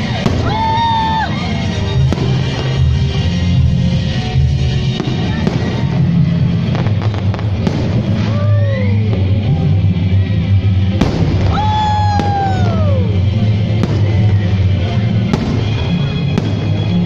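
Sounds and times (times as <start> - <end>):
fireworks bangs: 0.0 - 9.5, 11.0 - 17.0
whistling fireworks: 0.0 - 9.6, 11.0 - 17.0
loud music with bass: 0.0 - 17.0.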